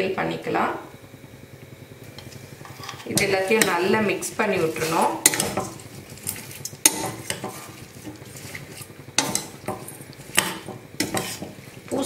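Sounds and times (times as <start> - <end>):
vegetables rustling and scraping: 2.3 - 12.0.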